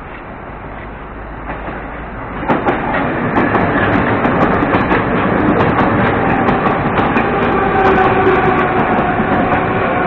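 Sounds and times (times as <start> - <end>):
train rumble: 0.0 - 10.0
wheels clicking over rail joints: 0.1 - 10.0.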